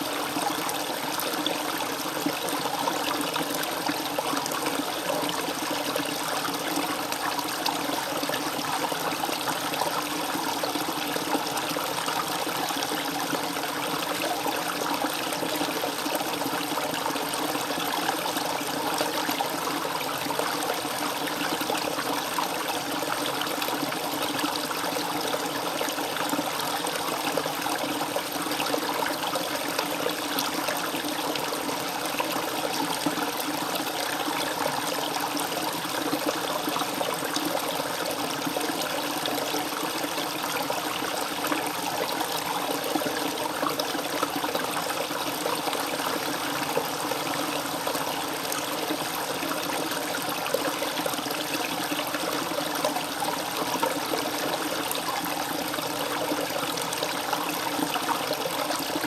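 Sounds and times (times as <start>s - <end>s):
brook babbling over rocks: 0.0s - 59.0s.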